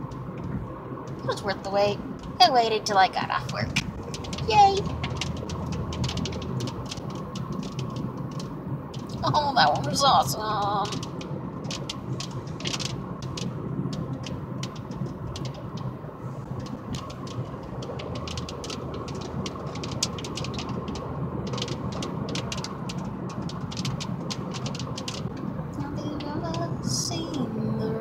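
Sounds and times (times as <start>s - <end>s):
raindrops ticking: 0.0s - 28.0s.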